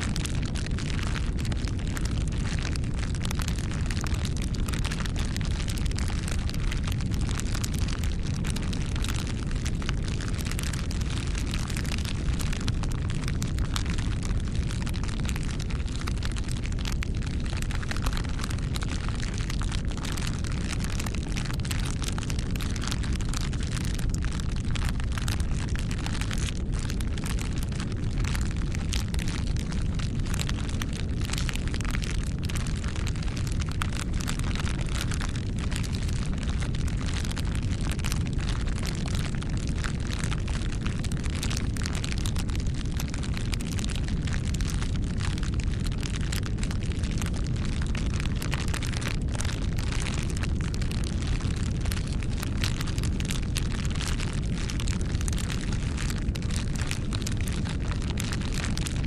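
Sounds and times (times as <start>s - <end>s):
bonfire flames rumbling: 0.0s - 59.0s
burning wood crackling and popping: 0.0s - 59.0s.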